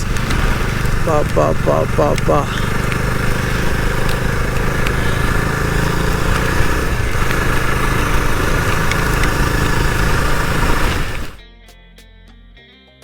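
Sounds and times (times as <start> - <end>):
constant rushing noise: 0.0 - 11.4
motorcycle engine running: 0.0 - 11.4.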